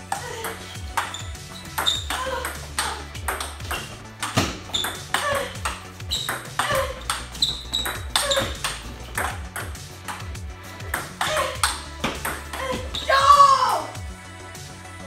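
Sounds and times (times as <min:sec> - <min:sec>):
table tennis ball hits: 0:00.1 - 0:13.4.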